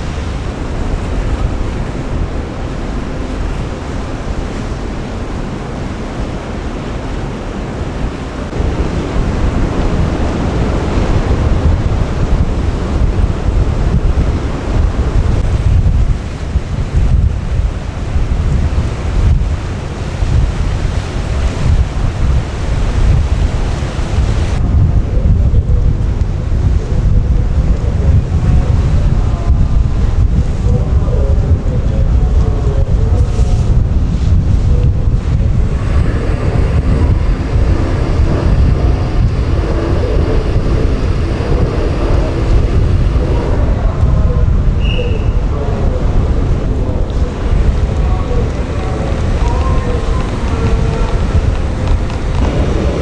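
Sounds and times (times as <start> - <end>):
rushing wind and sea water: 0.0 - 53.0
ship engine: 0.0 - 53.0
wind buffeting microphone: 0.0 - 53.0.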